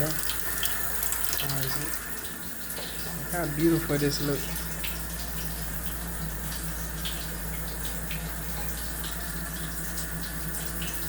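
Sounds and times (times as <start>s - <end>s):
pot bubbling on stove: 0.0s - 11.0s
steady low hum: 1.9s - 11.0s.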